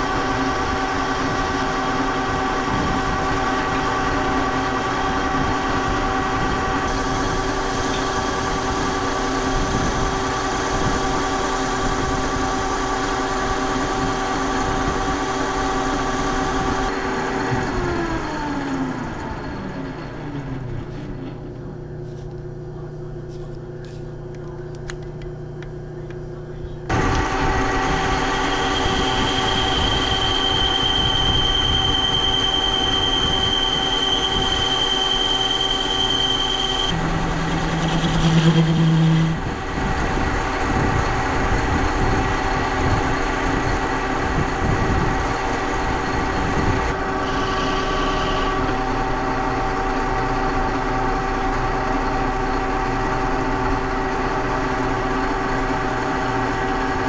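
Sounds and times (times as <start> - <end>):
metal lathe whining: 0.0 - 21.6, 26.9 - 57.0
low hum: 0.0 - 57.0.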